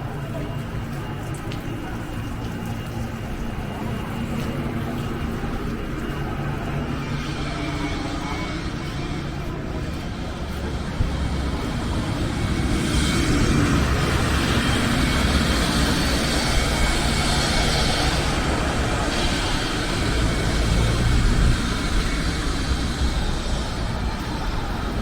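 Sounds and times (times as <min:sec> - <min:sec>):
road traffic passing: 0:02.9 - 0:25.0.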